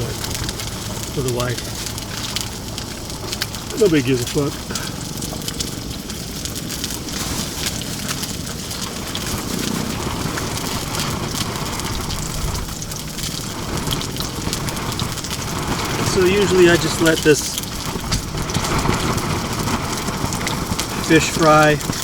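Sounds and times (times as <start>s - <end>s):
fish sizzling in oil: 0.0s - 22.0s
low rumble of wind: 0.0s - 22.0s.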